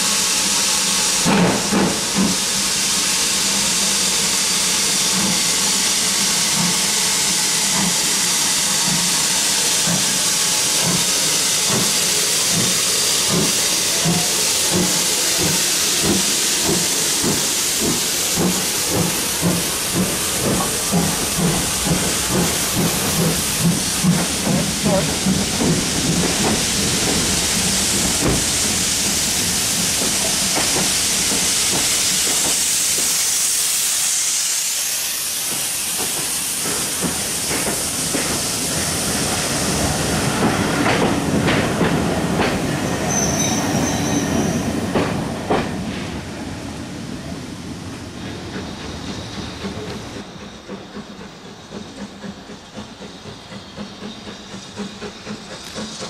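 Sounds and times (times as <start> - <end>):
distant train: 0.0 - 56.0
steam hissing: 0.0 - 56.0
train coaches rolling past: 0.0 - 56.0.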